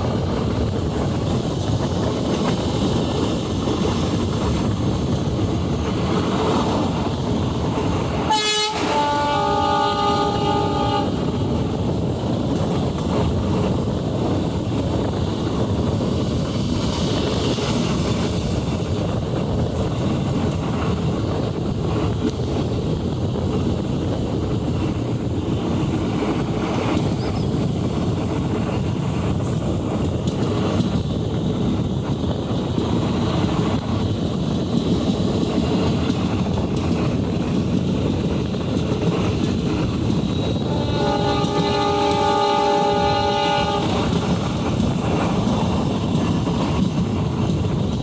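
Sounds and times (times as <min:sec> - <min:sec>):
train rumbling: 0:00.0 - 0:48.0
wind noise on microphone: 0:00.0 - 0:48.0.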